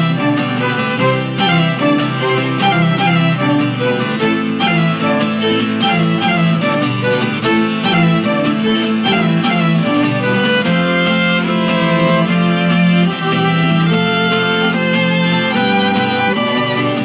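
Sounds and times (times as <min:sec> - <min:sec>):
strummed accompaniment: 0:00.0 - 0:17.0
violins bowing a melody: 0:00.0 - 0:17.0.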